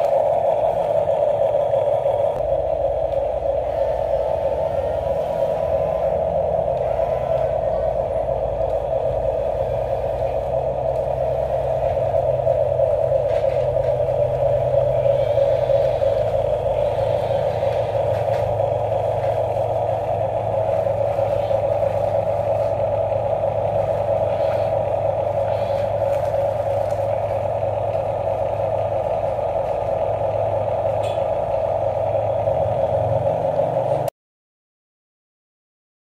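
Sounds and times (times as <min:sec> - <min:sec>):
small electric motors whining: 0:00.0 - 0:34.1.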